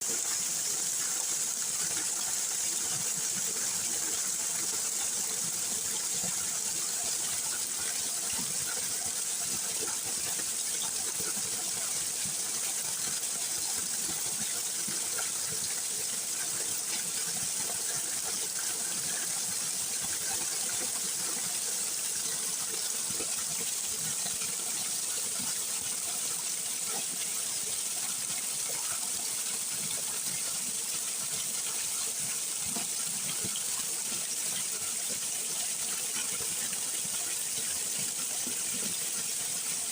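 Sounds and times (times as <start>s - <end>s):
water pouring over rocks: 0.0s - 39.9s.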